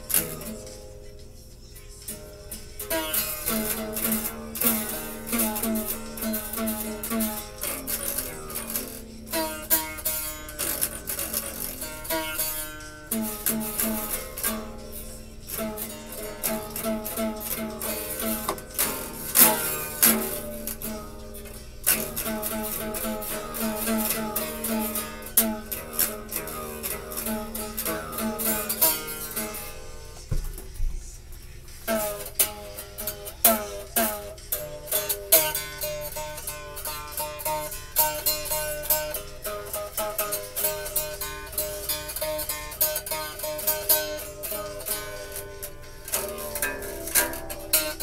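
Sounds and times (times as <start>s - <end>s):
acoustic guitar plucked: 0.0s - 48.0s.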